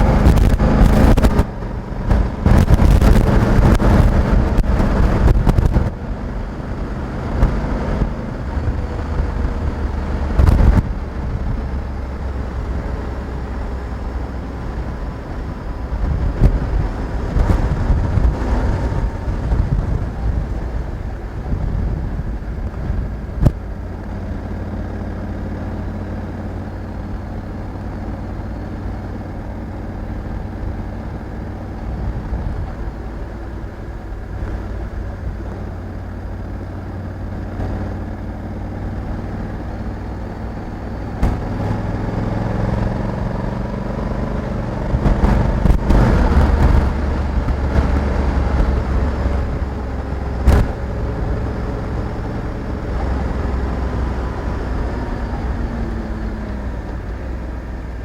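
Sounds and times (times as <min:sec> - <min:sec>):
motorcycle engine running: 0:00.0 - 0:58.0
road noise: 0:00.0 - 0:58.0
wind noise: 0:00.0 - 0:58.0.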